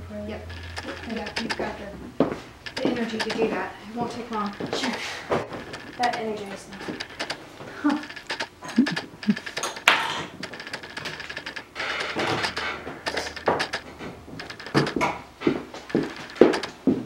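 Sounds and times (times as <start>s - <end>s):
clicks taps and knocks: 0.4s - 17.0s.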